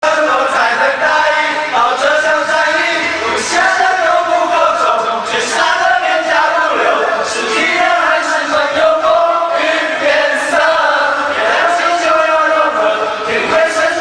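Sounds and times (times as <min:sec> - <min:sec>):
group of voices chanting: 0:00.0 - 0:14.0.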